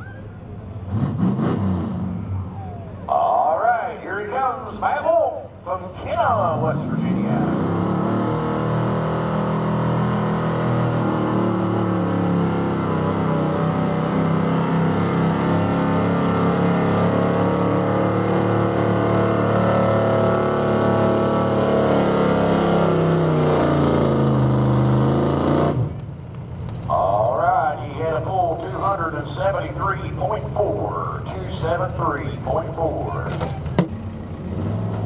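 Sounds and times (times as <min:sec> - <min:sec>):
truck engine at full throttle: 0:00.0 - 0:35.0.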